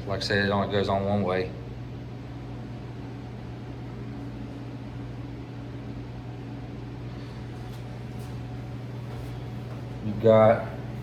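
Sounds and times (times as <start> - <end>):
heater humming with faint hiss: 0.0 - 11.0.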